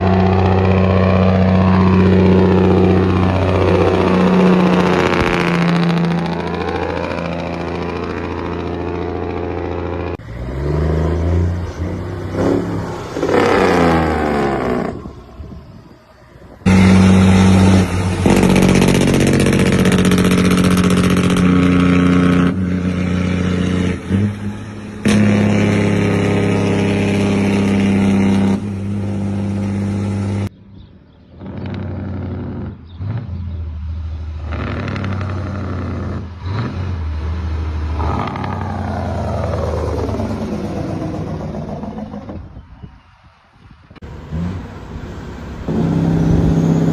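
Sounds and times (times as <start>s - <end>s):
heavy truck engine revving: 0.0s - 42.6s, 44.0s - 46.9s.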